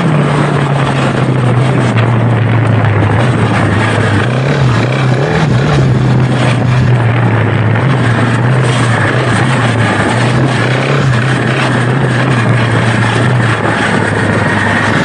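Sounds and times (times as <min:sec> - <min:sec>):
motorcycle engine running: 0:00.0 - 0:15.0
steady rush of noise: 0:00.0 - 0:15.0.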